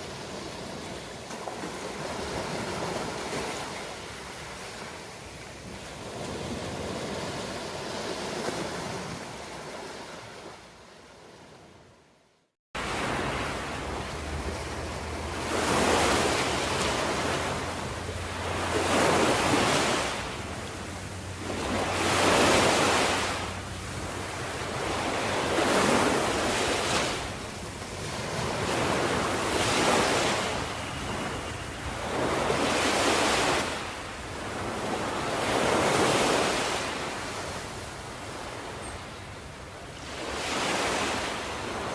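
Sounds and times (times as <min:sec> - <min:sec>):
waves washing in and out: 0:00.0 - 0:41.9.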